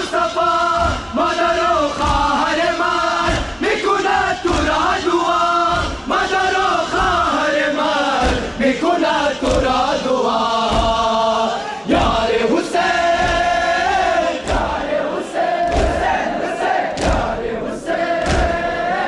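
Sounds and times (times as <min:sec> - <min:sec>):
men chanting together: 0:00.0 - 0:19.0
chest-beating thuds: 0:00.7 - 0:17.5, 0:18.2 - 0:18.9.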